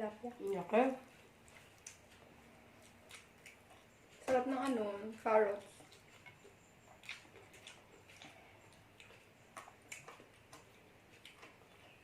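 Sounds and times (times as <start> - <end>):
mouths chewing food: 0.0 - 12.0.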